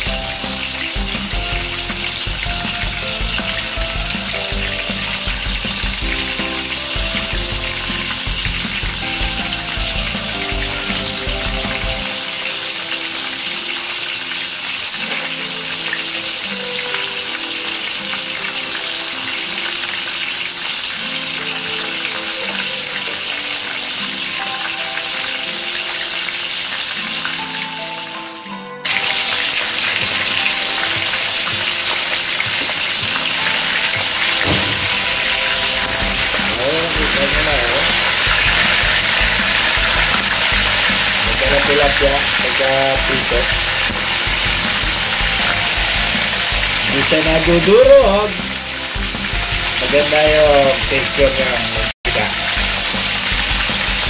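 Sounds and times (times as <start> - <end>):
fish sizzling in hot oil: 0.0 - 28.0, 28.9 - 54.0
background music: 0.0 - 54.0.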